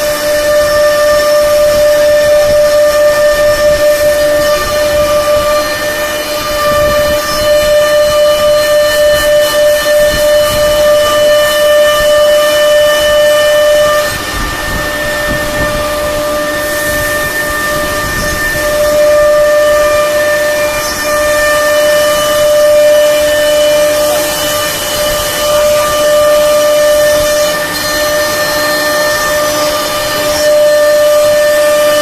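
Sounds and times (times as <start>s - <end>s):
hiss of cutting wood: 0.0s - 32.0s
router spindle whine: 0.0s - 32.0s.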